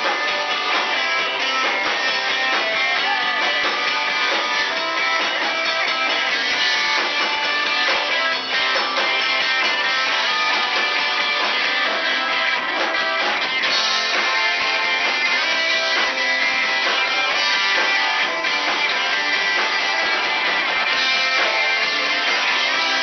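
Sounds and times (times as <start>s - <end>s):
drum kit: 0.0s - 23.0s
electric guitars: 0.0s - 23.0s
live rock band playing: 0.0s - 23.0s.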